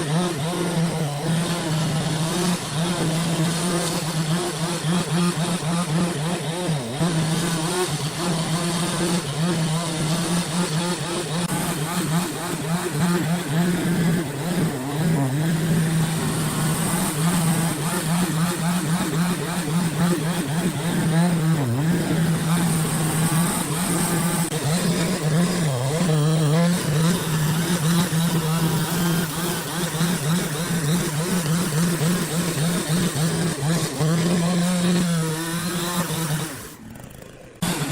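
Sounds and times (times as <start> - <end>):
engine running at high speed: 0.0 - 37.9.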